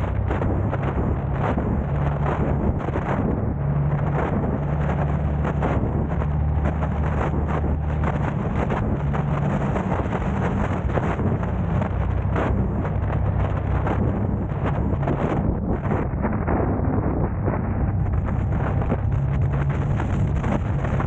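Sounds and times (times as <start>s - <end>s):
car engine and road hum: 0.0s - 21.0s
wind buffeting microphone: 0.0s - 21.0s.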